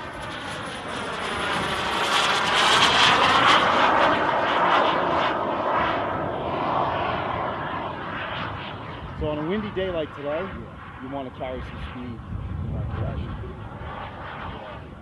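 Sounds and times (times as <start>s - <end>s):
model jet flying past: 0.0s - 15.0s.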